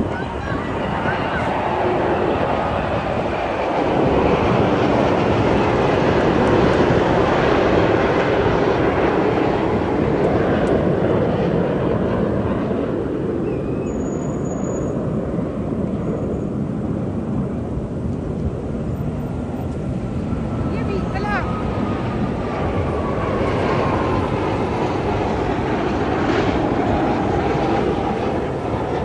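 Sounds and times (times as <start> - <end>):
jet aircraft engine roar: 0.0 - 29.0.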